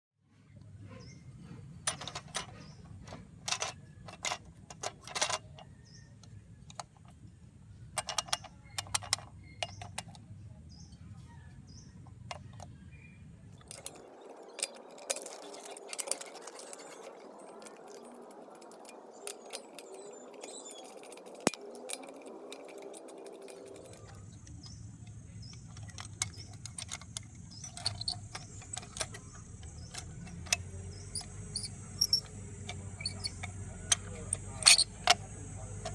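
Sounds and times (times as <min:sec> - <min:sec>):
steady background noise: 0:00.4 - 0:35.9
metal clinks and clicks: 0:01.8 - 0:07.2, 0:08.0 - 0:10.2, 0:13.5 - 0:35.9.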